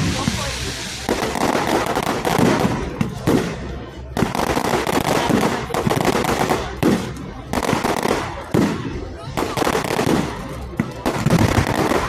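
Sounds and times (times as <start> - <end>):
bonfire crackling and popping: 0.0 - 12.0.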